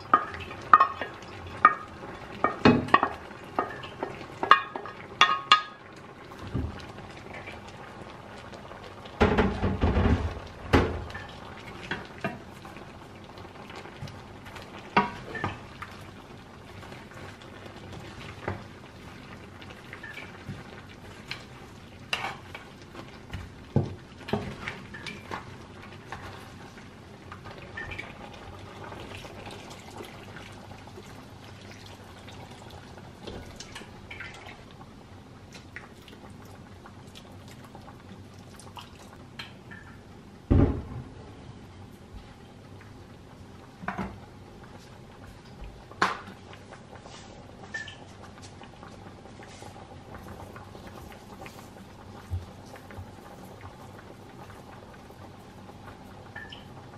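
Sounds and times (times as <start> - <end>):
liquid bubbling on stove: 0.0 - 56.9.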